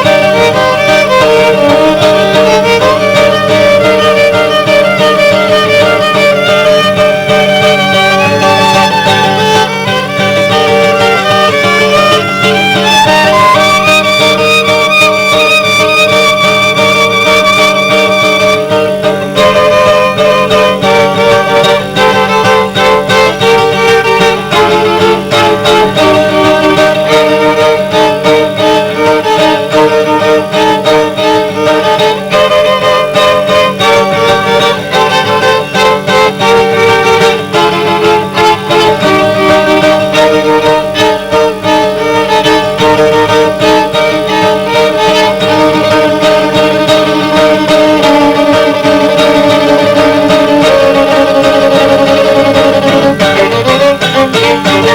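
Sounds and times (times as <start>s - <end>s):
violin and guitar jazz fusion: 0.0s - 54.9s.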